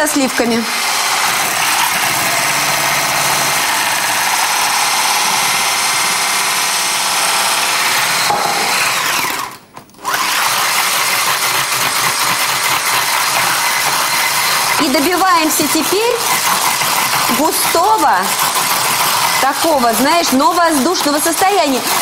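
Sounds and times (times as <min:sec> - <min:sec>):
electric hand blender running: 0:00.0 - 0:22.0.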